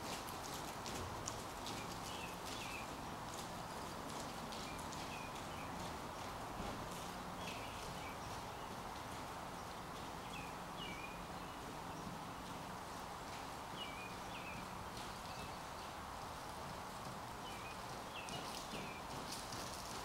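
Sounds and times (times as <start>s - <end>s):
muffled hoofbeats: 0.0s - 20.0s
steady background hiss: 0.0s - 20.0s.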